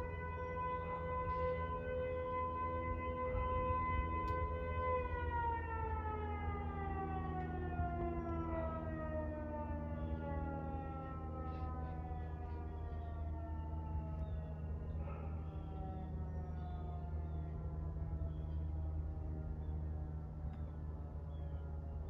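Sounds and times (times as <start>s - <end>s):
warning siren winding down: 0.0s - 22.0s.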